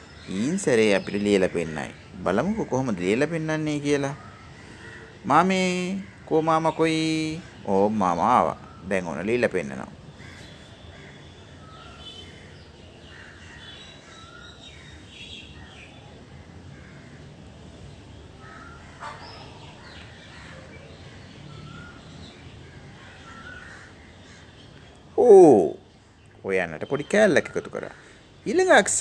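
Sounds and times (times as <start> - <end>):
birds chirping: 0.0 - 29.0
crows cawing: 1.4 - 9.0, 10.1 - 26.2, 27.3 - 28.5.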